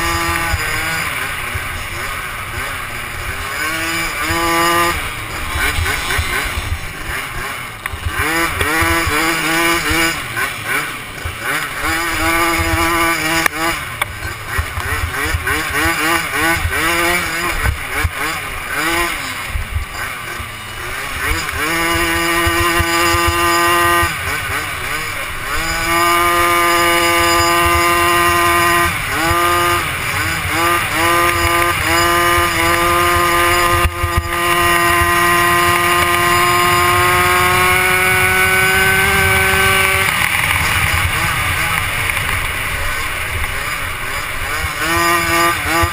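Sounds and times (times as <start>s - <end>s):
small engine revving: 0.0s - 45.9s.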